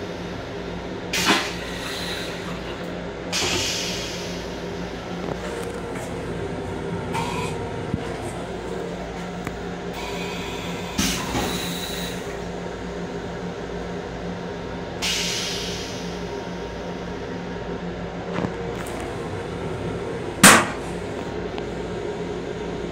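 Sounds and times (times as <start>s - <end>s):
railcar hum and rumble: 0.0s - 22.9s.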